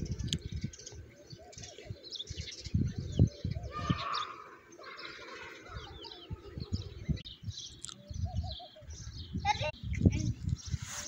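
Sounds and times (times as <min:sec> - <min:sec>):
small birds chirping: 0:00.0 - 0:11.0
wind gusts on microphone: 0:00.0 - 0:11.0.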